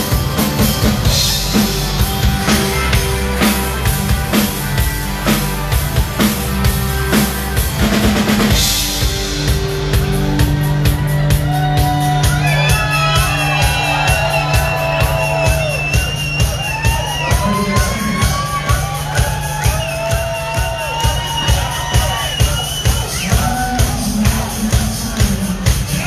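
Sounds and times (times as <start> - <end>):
drum kit fast beat: 0.0 - 26.0
rock band playing live: 0.0 - 26.0.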